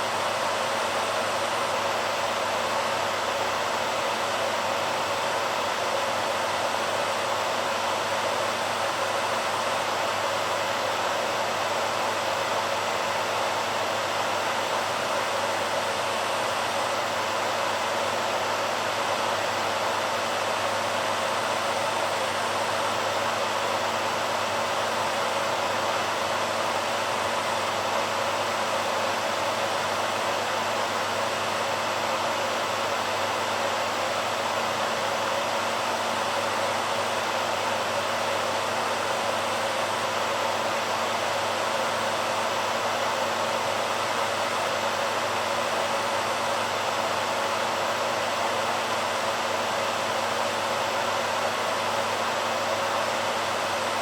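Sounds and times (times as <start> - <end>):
hairdryer blowing air: 0.0 - 54.0.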